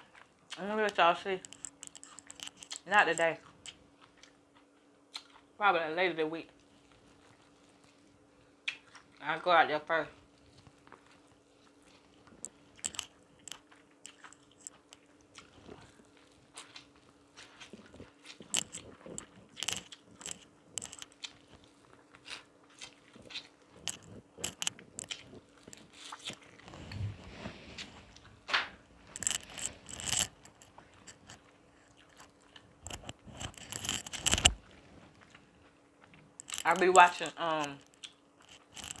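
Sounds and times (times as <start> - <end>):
crunchy chewing of corn: 0.0 - 5.6, 6.4 - 39.0.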